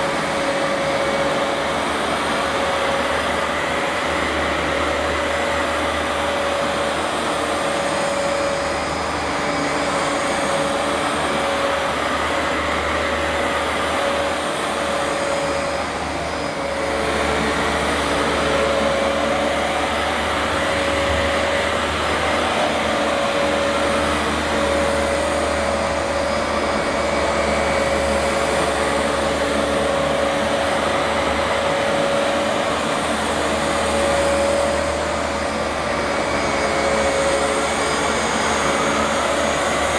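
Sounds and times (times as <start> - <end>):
carpet washer suction motor: 0.0 - 39.9.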